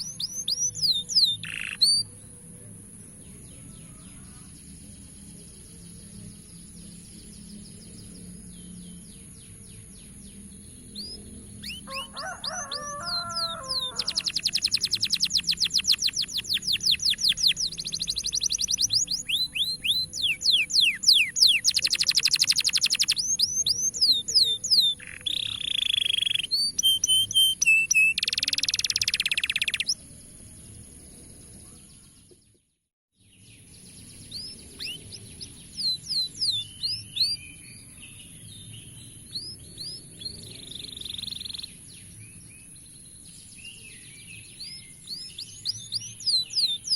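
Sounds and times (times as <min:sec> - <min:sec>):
canary singing trills: 0:00.0 - 0:30.1, 0:33.6 - 0:46.9.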